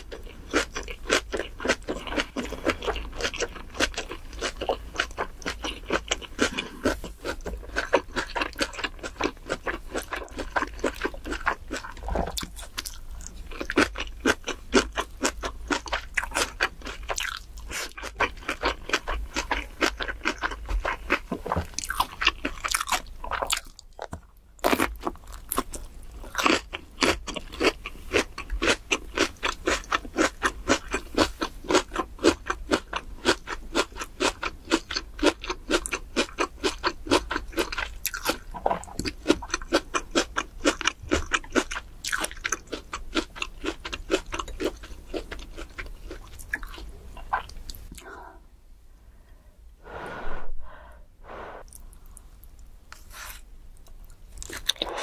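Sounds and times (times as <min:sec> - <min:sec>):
wet crunchy chewing: 0:00.0 - 0:48.1, 0:51.6 - 0:55.0.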